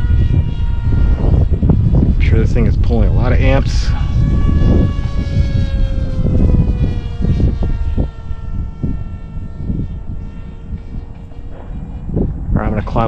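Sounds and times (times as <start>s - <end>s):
electric motor and propeller whine: 0.0s - 13.0s
wind buffeting microphone: 0.0s - 13.0s.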